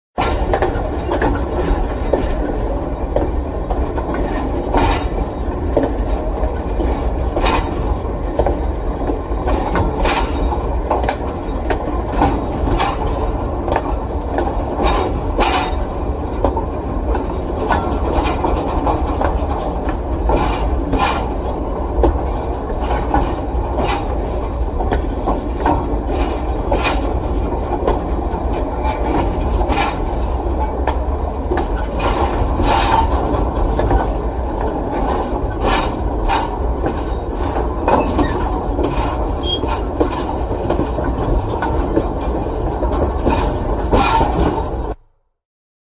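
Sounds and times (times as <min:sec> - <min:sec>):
wheels clicking on track: 0:00.2 - 0:45.0
freight train rumble: 0:00.2 - 0:45.1.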